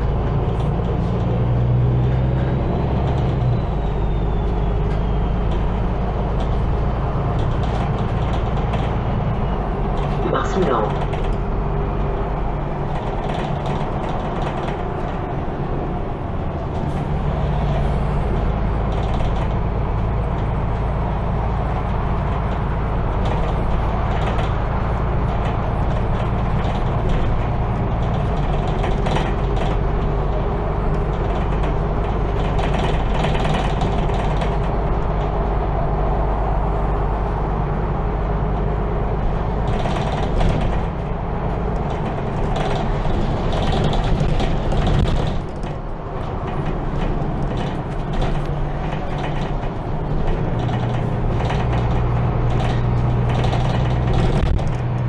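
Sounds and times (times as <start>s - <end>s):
bus engine running: 0.0s - 55.0s
interior clicks and rattles: 0.0s - 55.0s
road noise: 0.0s - 55.0s.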